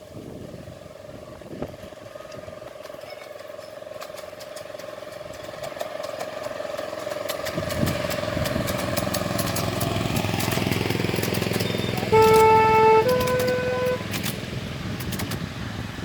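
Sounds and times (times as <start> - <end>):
miniature locomotive engine running: 0.0 - 16.0.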